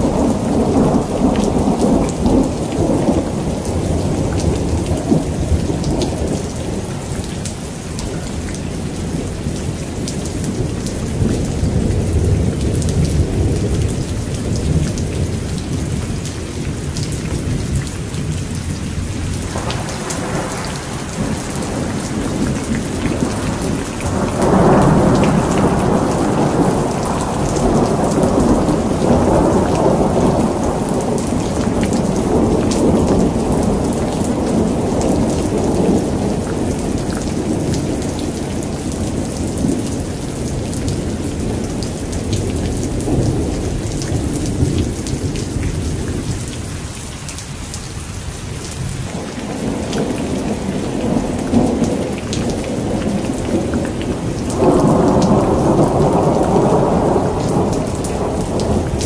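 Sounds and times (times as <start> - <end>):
rumble of thunder: 0.0 - 7.4, 8.0 - 46.7, 48.7 - 59.0
heavy rain: 0.0 - 59.0.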